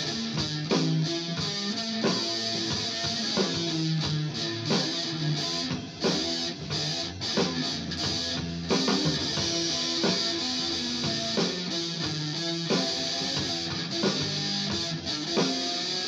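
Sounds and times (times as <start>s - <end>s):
electric guitar strummed and picked: 0.0s - 16.0s.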